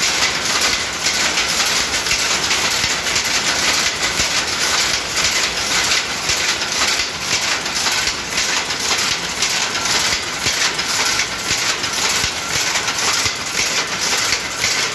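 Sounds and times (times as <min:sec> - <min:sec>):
power loom rhythmic clatter: 0:00.0 - 0:14.9.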